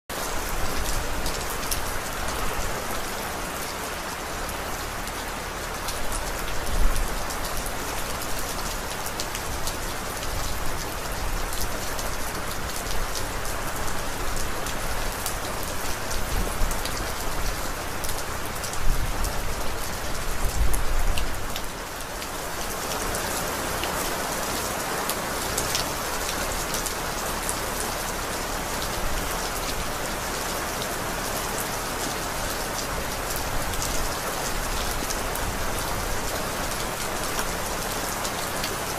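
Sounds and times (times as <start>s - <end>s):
rain falling: 0.1s - 38.9s.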